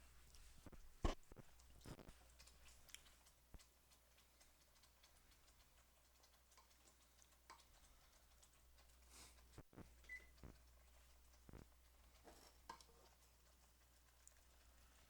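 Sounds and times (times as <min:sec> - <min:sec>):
faint clicks and taps: 0:00.0 - 0:15.0
faint low hum: 0:00.0 - 0:15.0.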